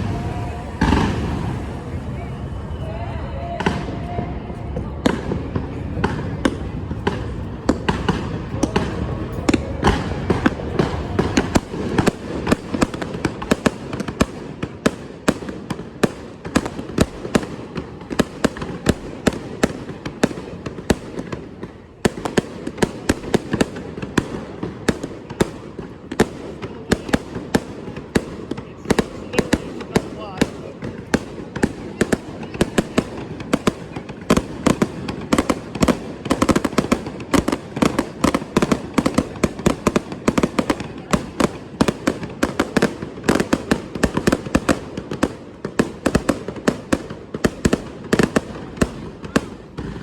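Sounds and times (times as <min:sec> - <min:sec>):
fireworks bangs and crackles: 0:00.0 - 0:50.0
rumble of firework bursts: 0:00.0 - 0:50.0.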